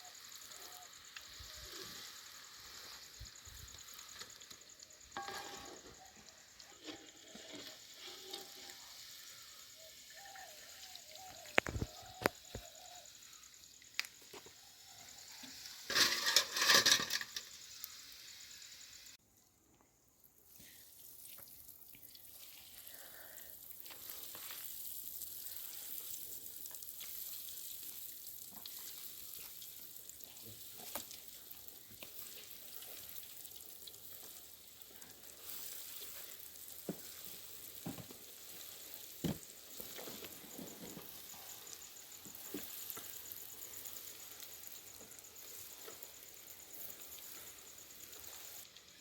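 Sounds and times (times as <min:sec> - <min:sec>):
fish sizzling in hot oil: 0:00.0 - 0:19.2, 0:20.3 - 0:49.0.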